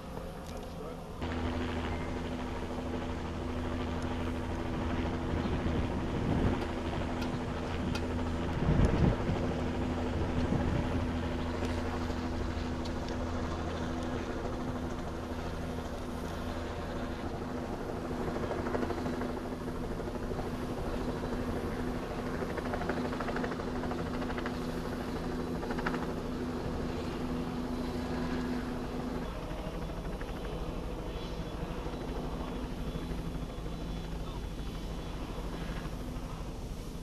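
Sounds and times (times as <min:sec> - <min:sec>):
engine droning: 0:00.0 - 0:37.0.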